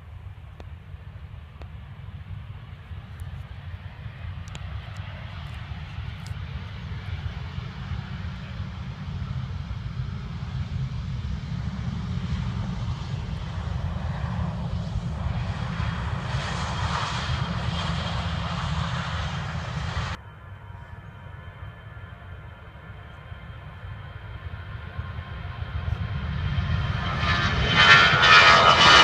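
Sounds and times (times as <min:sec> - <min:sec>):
airliner engines passing: 0:00.0 - 0:29.0.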